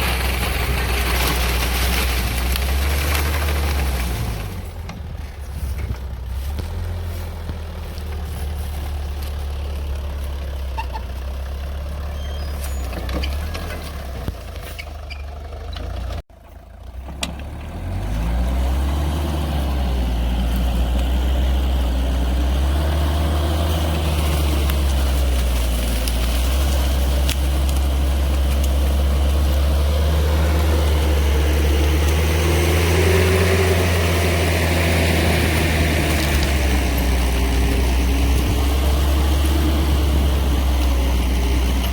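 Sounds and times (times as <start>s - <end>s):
tiller engine running: 0.0s - 41.9s.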